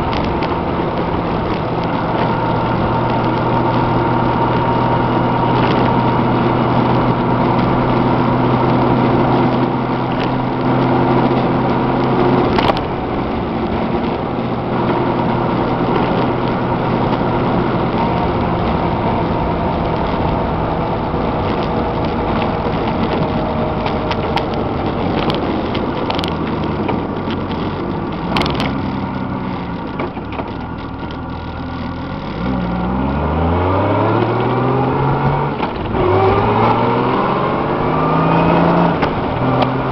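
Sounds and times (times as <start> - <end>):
motorcycle engine running: 0.0 - 33.1
wind and tyre noise: 0.0 - 39.9.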